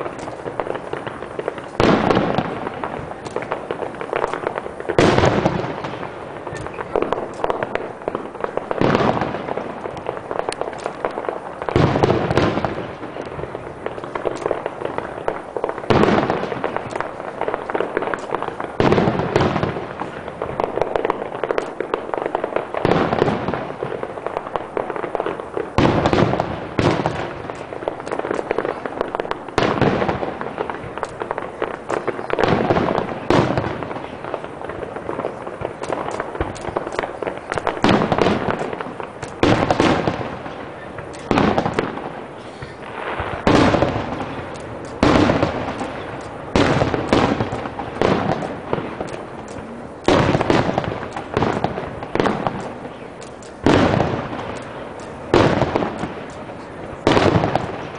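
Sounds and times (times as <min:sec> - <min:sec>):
firework crackling: 0:00.0 - 0:57.9
firework shells booming: 0:00.0 - 0:57.9.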